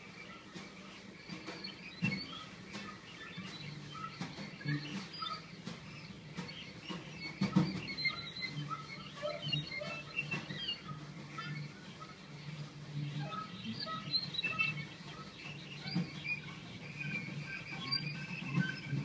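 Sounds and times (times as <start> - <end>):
high squeaks and chirps: 0.2 - 19.0.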